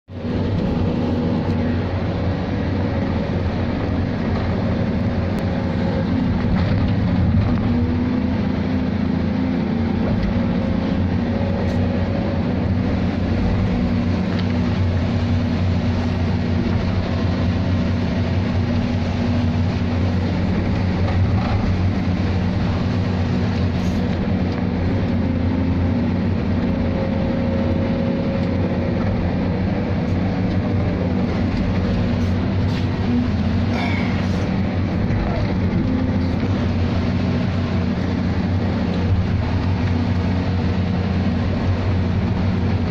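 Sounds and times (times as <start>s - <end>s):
boat engine droning: 0.0s - 42.9s
rushing water and wind: 0.1s - 42.9s.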